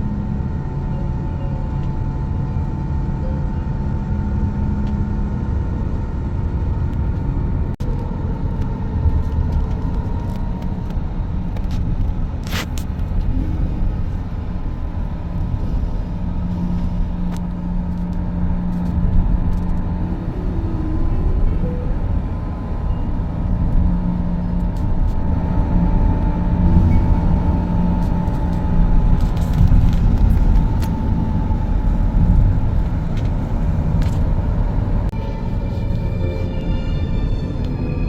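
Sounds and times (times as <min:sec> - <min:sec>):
motor vehicle engine rumbling: 0:00.0 - 0:38.0.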